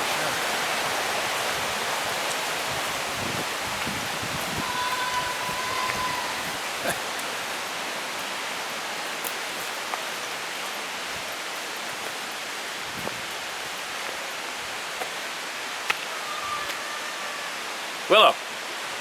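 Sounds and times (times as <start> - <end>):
brook water rushing: 0.0 - 19.0.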